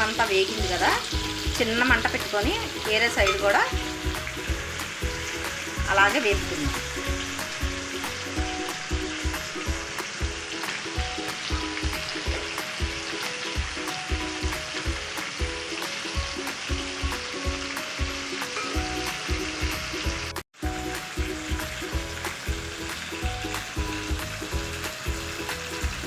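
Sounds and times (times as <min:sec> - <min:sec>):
background music with steady beat: 0:00.0 - 0:26.0
chicken sizzling in oil: 0:00.0 - 0:26.0.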